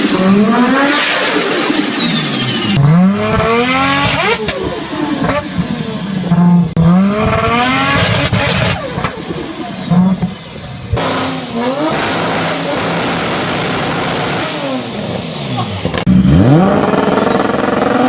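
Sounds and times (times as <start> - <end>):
another car revving: 0.0 - 18.0
car engine revving: 0.0 - 18.0.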